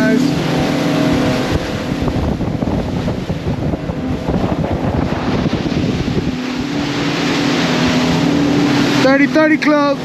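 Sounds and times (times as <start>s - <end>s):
boat engines: 0.0s - 10.0s
water rushing past hull: 0.0s - 10.0s
wind buffeting microphone: 0.0s - 10.0s.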